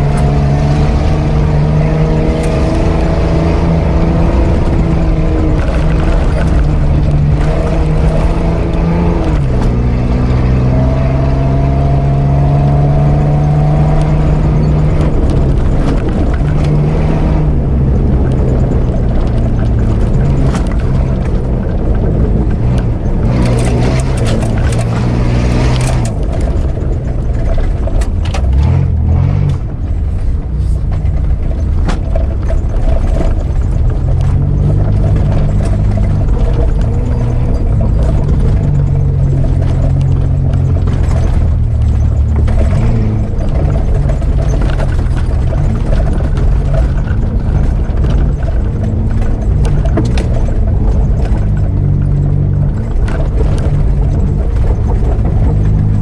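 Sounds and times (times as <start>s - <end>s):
knocks and rattles: 0.0s - 56.0s
suv engine pulling on dirt track: 0.0s - 56.0s.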